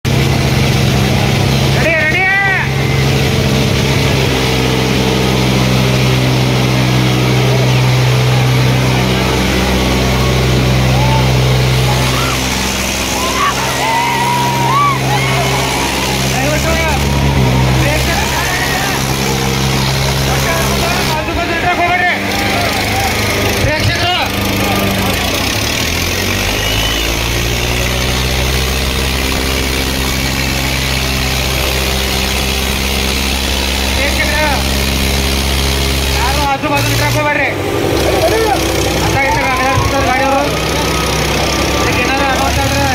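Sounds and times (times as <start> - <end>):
crowd noise: 0.0 - 42.9
tractor diesel engine running: 0.0 - 42.9.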